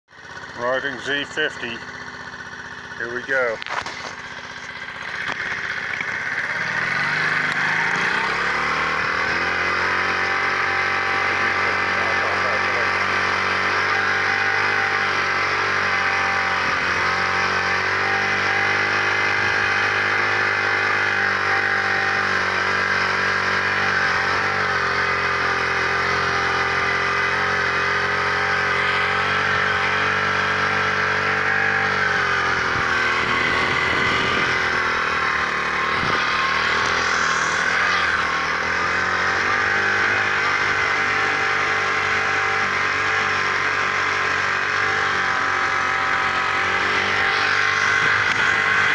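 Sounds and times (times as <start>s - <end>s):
motorbike engine running: 0.1s - 48.9s.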